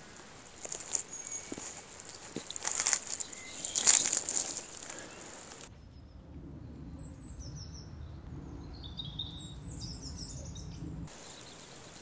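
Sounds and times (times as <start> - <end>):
steady low rumble: 0.0 - 11.2
small birds chirping: 0.0 - 12.0.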